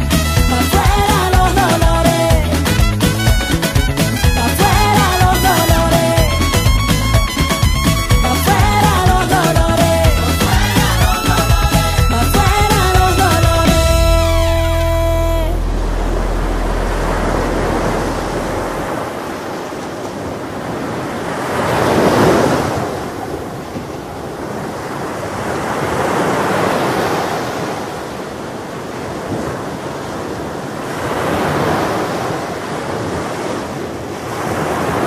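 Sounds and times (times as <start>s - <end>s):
ocean waves breaking: 0.0s - 35.0s.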